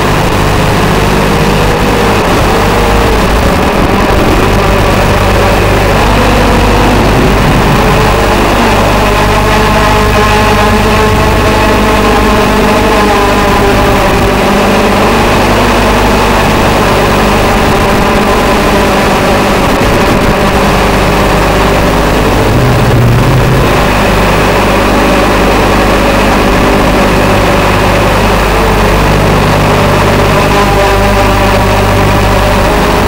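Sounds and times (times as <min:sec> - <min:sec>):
drone motors and propellers: 0:00.0 - 0:33.0.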